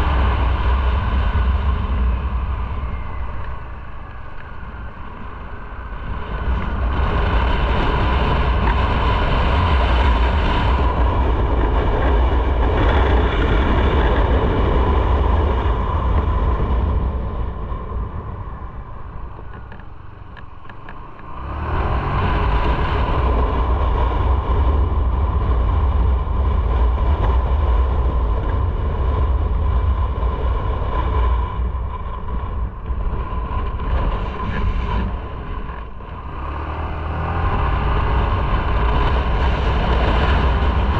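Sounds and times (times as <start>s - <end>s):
motorcycle engine rumble: 0.0s - 40.9s
wind rush on microphone: 0.0s - 40.9s.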